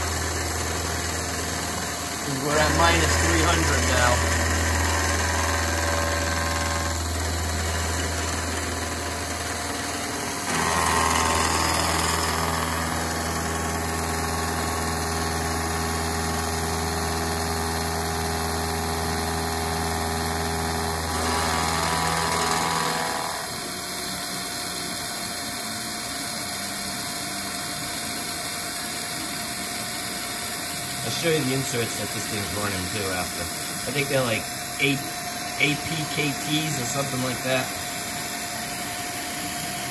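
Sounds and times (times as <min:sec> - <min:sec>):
milling cutter machining hum: 0:00.0 - 0:39.9.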